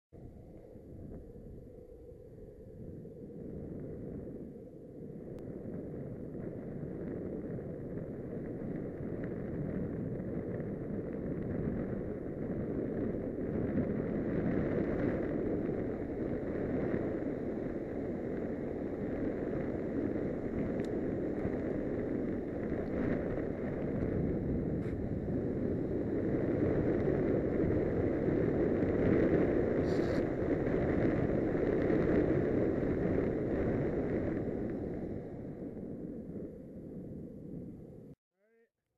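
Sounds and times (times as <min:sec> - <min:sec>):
longboard wheels rolling on asphalt: 0:00.2 - 0:38.1
wind on microphone: 0:00.2 - 0:38.2.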